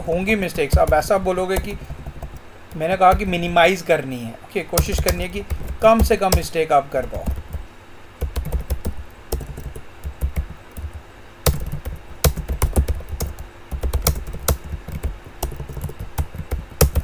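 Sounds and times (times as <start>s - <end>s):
typing on computer keyboard: 0.0s - 3.4s, 4.8s - 7.6s, 8.2s - 17.0s.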